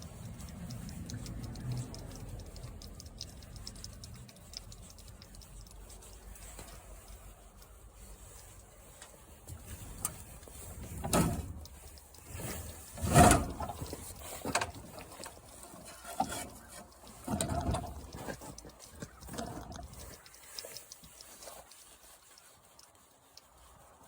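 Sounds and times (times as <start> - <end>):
sharp clicks: 0.0 - 24.0.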